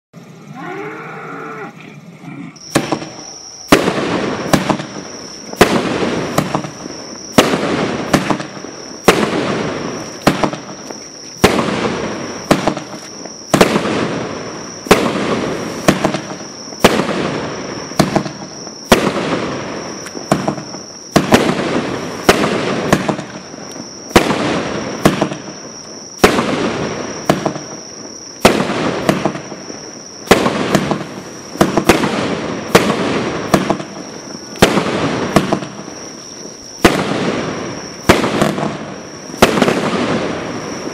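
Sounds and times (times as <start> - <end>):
firework cake bangs: 2.6 - 36.2, 36.8 - 40.9.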